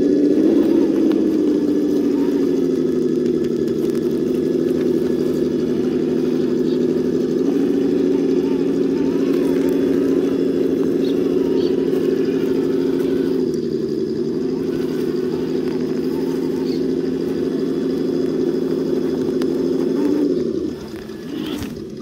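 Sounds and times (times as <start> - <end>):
electric motor and drivetrain whine: 0.0 - 22.0.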